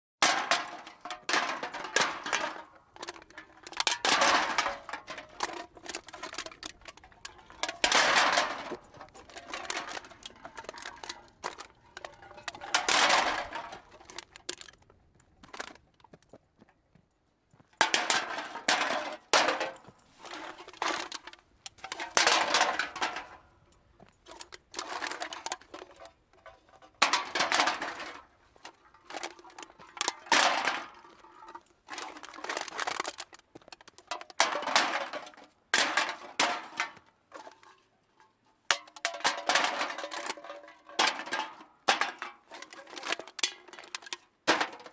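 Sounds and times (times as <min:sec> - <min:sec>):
cans clattering into a cart: 0:00.2 - 0:14.8, 0:17.8 - 0:37.8, 0:38.7 - 0:44.9.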